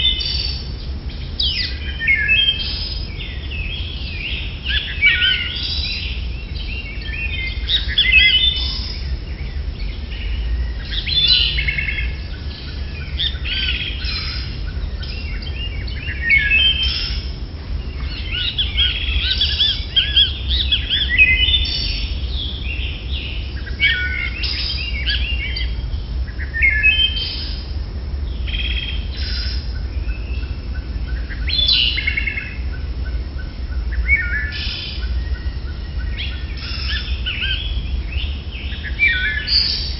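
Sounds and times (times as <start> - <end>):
birds chirping: 0.0 - 39.9
steady low rumble: 0.0 - 39.9.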